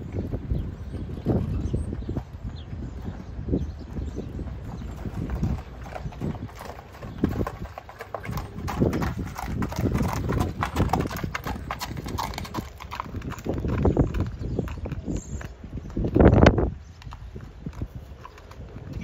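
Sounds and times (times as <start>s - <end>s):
hooves on gravel: 0.0s - 19.0s.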